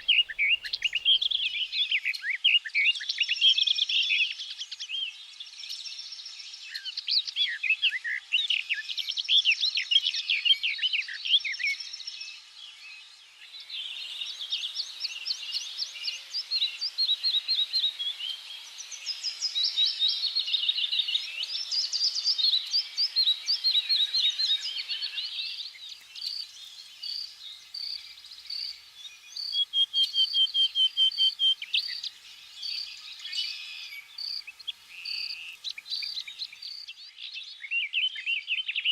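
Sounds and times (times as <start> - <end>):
songbirds singing in chorus: 0.0 - 38.9.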